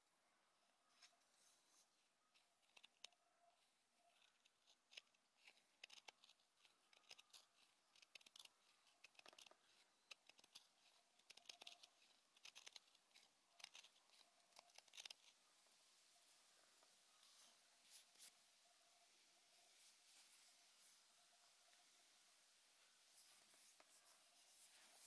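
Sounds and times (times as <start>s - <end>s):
faint clicks and scratches: 0.8s - 22.0s, 22.7s - 25.0s.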